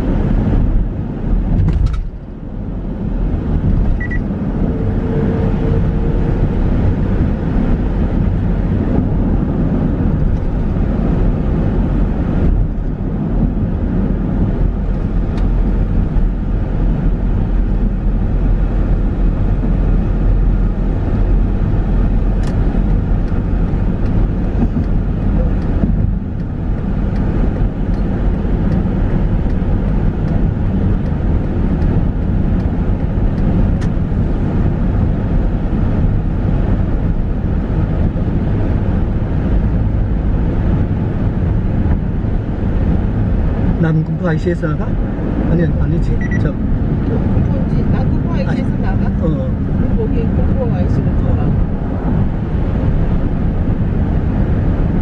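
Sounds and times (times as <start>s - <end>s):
car road noise inside cabin: 0.0s - 55.0s.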